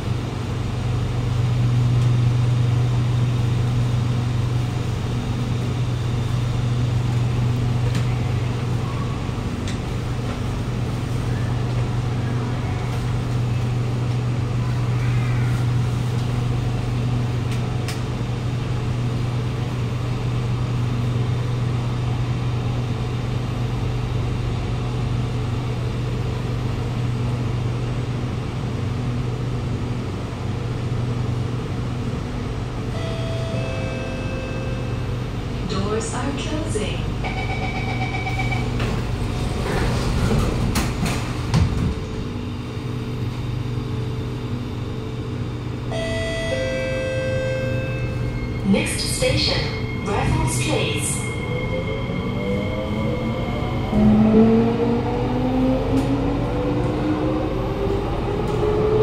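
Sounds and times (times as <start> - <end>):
metro train low drone: 0.0 - 59.0.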